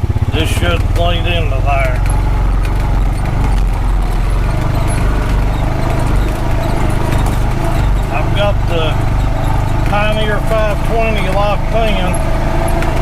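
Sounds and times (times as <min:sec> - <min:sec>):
vehicle engine running: 0:00.0 - 0:13.0
vehicle knocking and rattling: 0:00.0 - 0:13.0.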